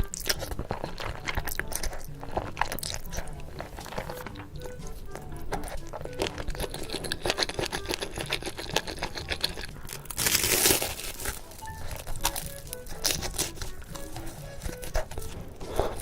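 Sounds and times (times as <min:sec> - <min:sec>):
food packaging crinkling: 0:00.0 - 0:16.0.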